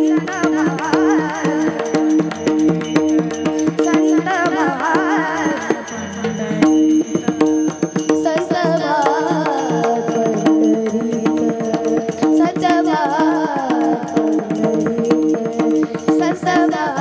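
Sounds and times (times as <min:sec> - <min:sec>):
hand drum beat: 0:00.0 - 0:17.0
harmonium-like held tones: 0:00.0 - 0:17.0
person singing ornamented melody: 0:00.0 - 0:17.0.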